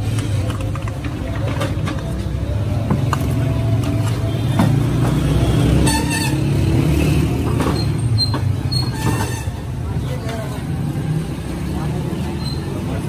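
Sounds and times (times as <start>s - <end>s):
passing cars and motorcycles: 0.0s - 13.0s.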